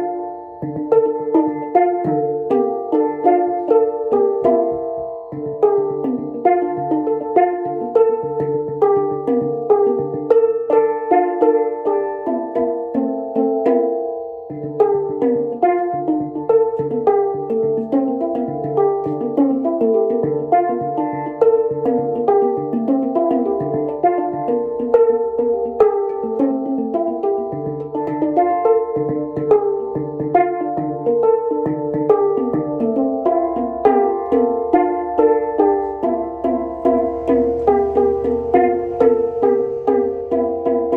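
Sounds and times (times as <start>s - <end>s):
handpan melody: 0.0s - 40.9s.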